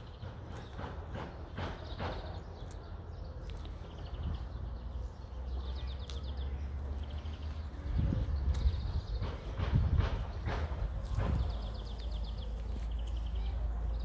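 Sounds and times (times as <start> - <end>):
small birds trilling: 0.0 - 14.0
steady low rumble: 2.7 - 14.0.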